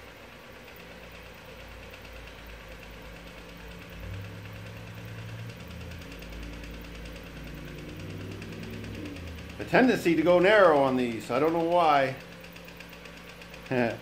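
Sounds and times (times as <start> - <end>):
bead roller motor humming: 0.0 - 14.0.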